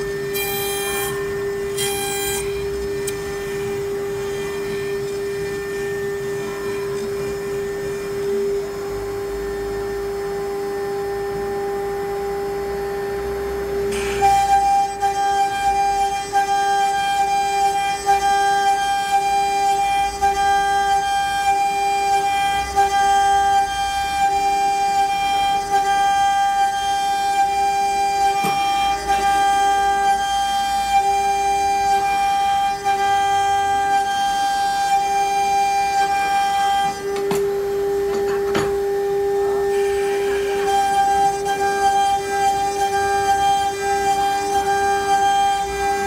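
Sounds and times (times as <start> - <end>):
router spindle whining: 0.0 - 46.0.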